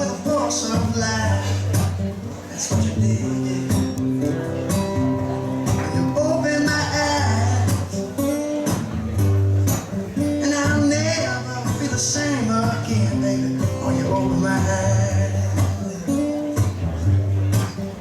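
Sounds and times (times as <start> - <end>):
strummed guitar: 0.0 - 18.0.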